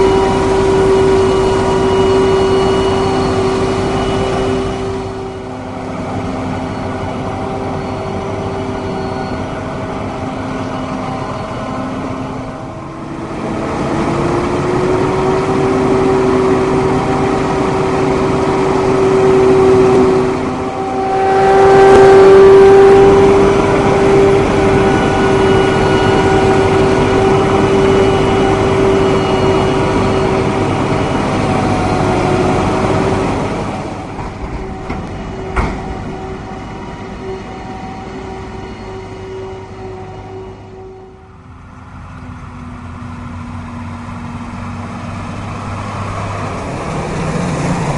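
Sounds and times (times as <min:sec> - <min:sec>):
forage harvester engine whining: 0:00.0 - 0:47.9.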